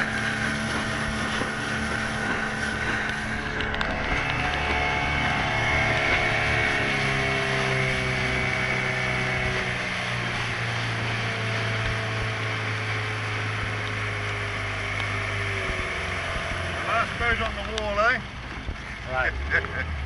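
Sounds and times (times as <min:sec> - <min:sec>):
wind on microphone: 0:00.0 - 0:16.9
motorboat engine running: 0:00.0 - 0:20.0
water washing past hull: 0:00.0 - 0:20.0.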